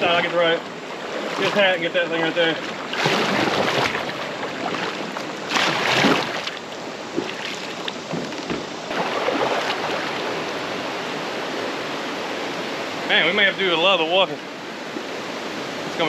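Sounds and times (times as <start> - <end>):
paddle strokes splashing: 0.0 - 16.0
rushing creek water: 0.0 - 16.0.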